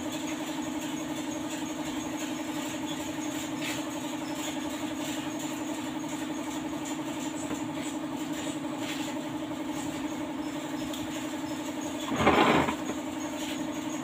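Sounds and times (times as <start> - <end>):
air compressor droning: 0.0 - 14.0.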